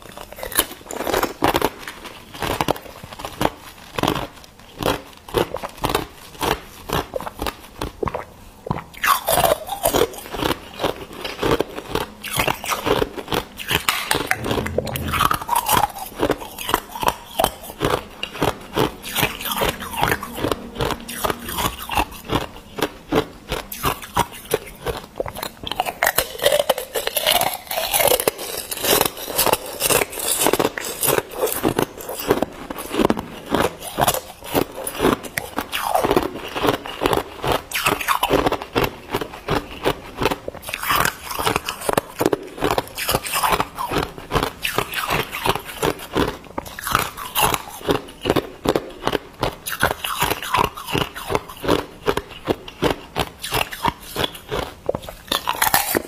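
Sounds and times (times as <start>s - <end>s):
ice being chewed crunching: 0.0s - 56.0s.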